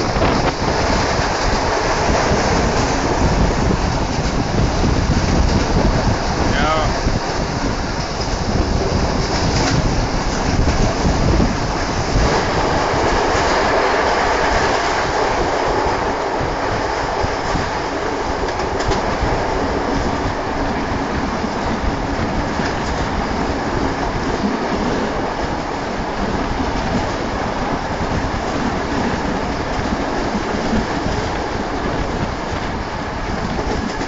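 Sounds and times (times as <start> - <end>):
rail joint clicks: 0.0 - 16.0, 17.4 - 34.0
train wheels rumbling on rails: 0.0 - 34.0.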